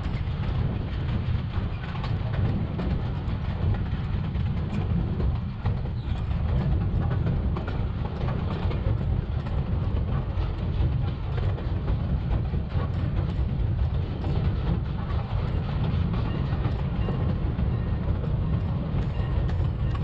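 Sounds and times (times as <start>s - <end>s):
railway cars rumbling: 0.0s - 20.0s.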